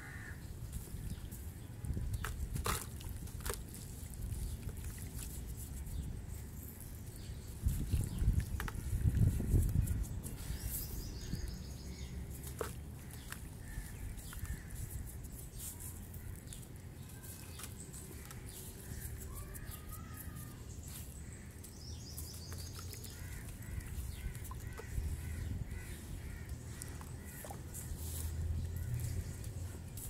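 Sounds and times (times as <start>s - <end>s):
birds chirping: 5.9s - 30.0s.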